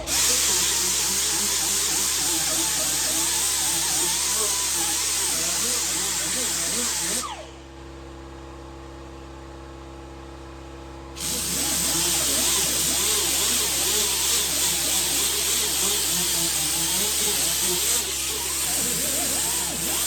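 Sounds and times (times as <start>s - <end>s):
power grinder grinding steel: 0.0s - 7.4s, 11.2s - 20.0s.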